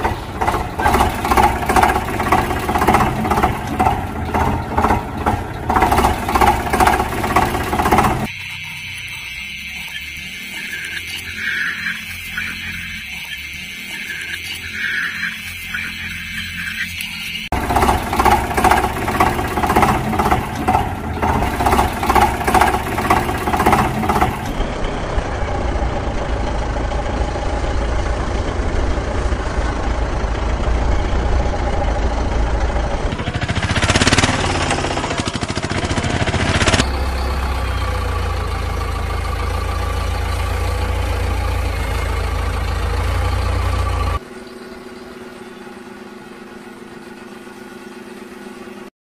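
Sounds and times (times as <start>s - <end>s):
engine running: 0.0s - 48.9s
pulsing engine beat: 0.0s - 48.9s.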